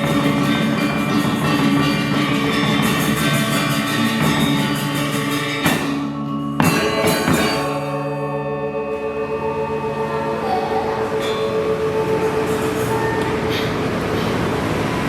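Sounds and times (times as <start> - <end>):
sharp struck accents: 0.0 - 14.3
gongs ringing: 0.0 - 15.0
metallophones ringing: 0.0 - 15.0.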